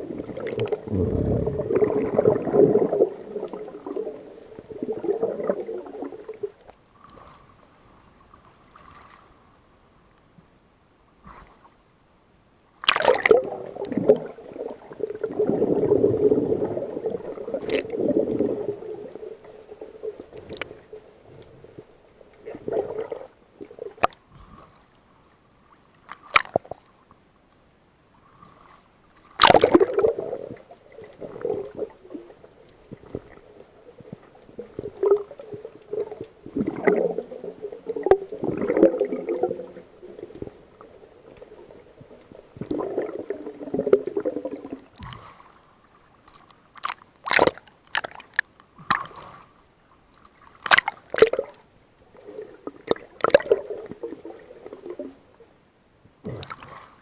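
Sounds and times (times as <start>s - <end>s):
water gurgling and sloshing: 0.0s - 9.8s, 12.7s - 27.3s, 28.1s - 57.0s.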